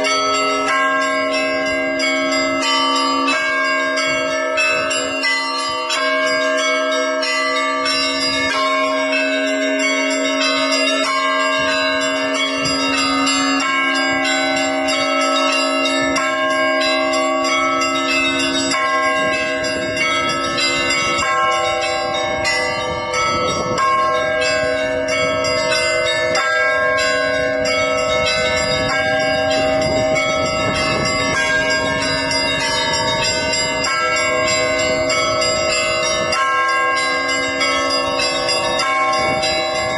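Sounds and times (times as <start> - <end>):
low bell humming: 0.0 - 39.9
small bells struck rapidly: 0.0 - 39.9.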